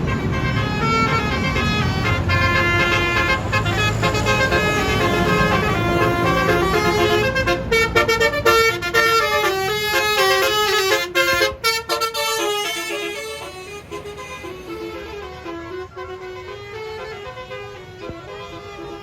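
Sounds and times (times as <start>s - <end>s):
bus engine rumble: 0.0s - 19.0s
bus horn playing a tune: 0.0s - 19.0s.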